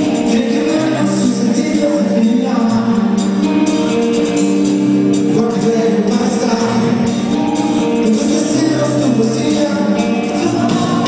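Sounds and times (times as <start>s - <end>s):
band playing live: 0.0s - 11.0s.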